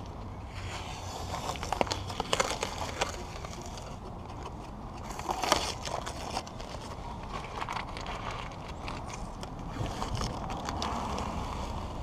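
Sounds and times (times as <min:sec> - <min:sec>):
tape peeling and crinkling: 0:00.0 - 0:12.0.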